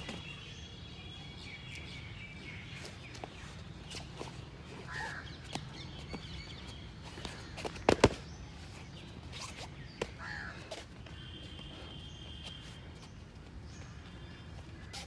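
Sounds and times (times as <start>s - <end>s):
bare feet on foam mats: 0.0s - 15.0s
birds chirping: 0.0s - 15.0s
outdoor background noise: 0.0s - 15.0s.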